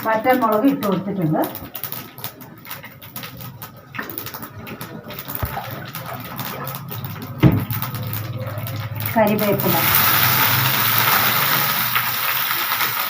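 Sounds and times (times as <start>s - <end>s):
seeds crackling in hot oil: 0.0s - 13.0s.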